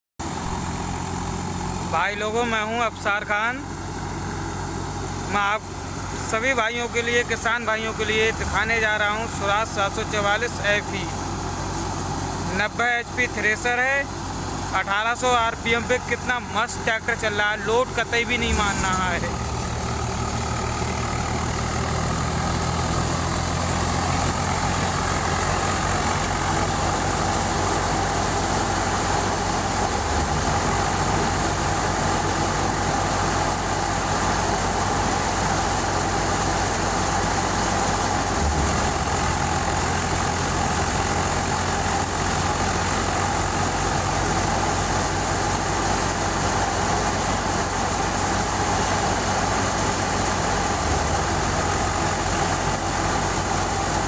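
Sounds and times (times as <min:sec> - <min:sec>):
tractor diesel engine running: 0:00.2 - 0:54.0.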